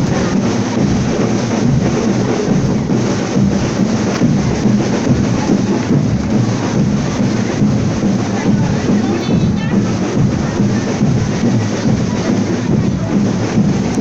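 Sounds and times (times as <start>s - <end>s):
heavy drums: 0.0s - 14.0s
marching band playing: 0.0s - 14.0s.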